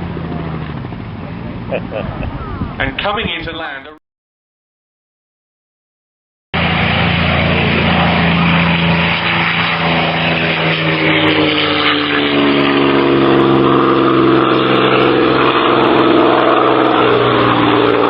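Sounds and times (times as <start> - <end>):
aircraft engine drone: 0.0 - 3.6, 6.6 - 18.0.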